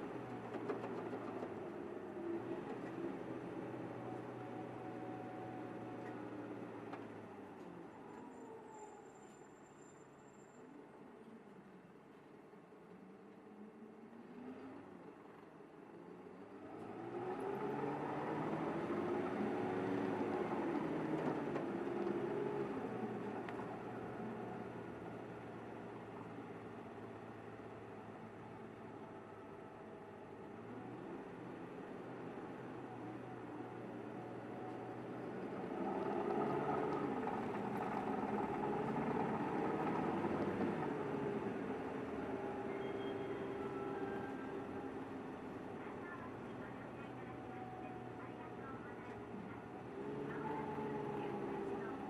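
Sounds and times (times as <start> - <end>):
bus engine accelerating: 0.0 - 52.0.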